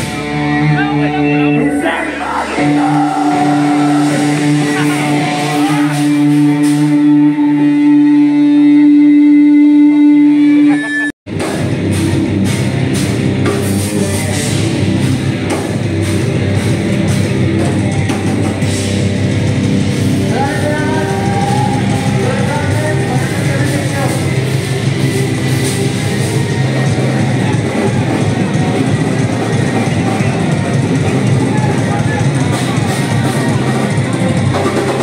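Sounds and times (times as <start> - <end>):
distorted guitars: 0.0 - 35.0
rock band playing loud: 0.0 - 35.0
pounding drums and cymbals: 1.6 - 7.1, 11.3 - 35.0.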